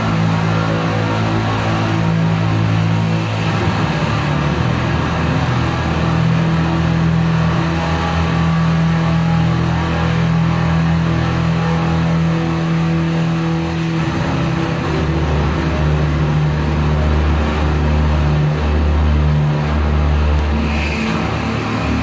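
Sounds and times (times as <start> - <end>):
distorted electric guitar droning: 0.0 - 22.0.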